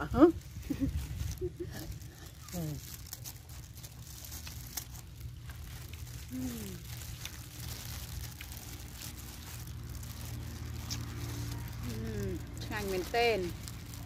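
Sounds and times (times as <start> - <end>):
low rumble: 0.0 - 14.0
plastic gloves crinkling: 0.0 - 14.0
chewing crunches: 0.4 - 14.0.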